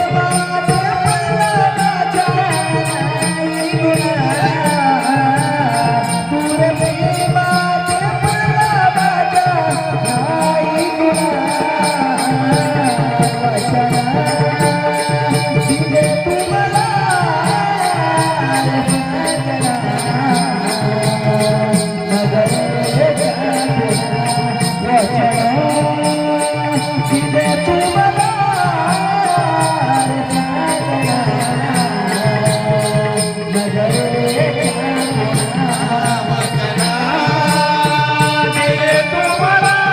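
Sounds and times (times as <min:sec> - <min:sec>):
steady percussion beat: 0:00.0 - 0:39.9.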